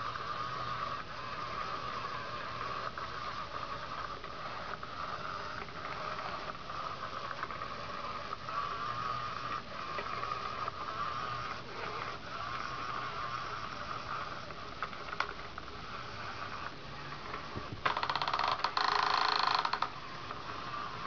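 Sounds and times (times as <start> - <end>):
small motor whirring: 0.0 - 21.0.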